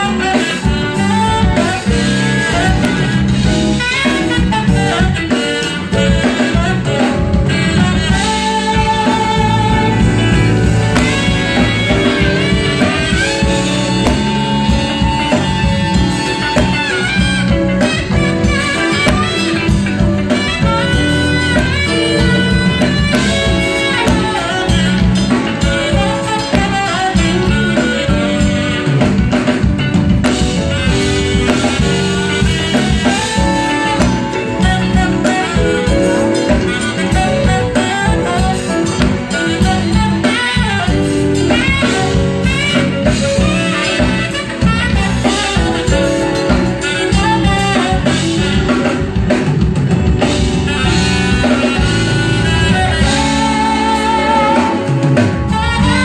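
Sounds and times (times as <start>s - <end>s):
live smooth jazz band: 0.0s - 56.0s
saxophone lead: 0.0s - 56.0s.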